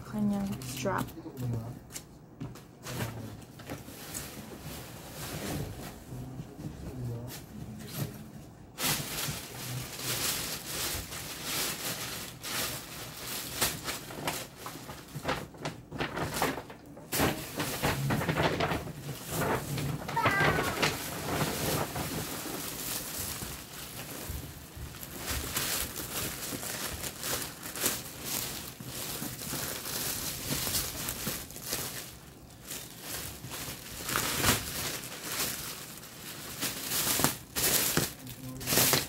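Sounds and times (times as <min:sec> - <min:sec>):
plastic wrapping crinkling: 0:00.0 - 0:02.1, 0:02.8 - 0:39.0.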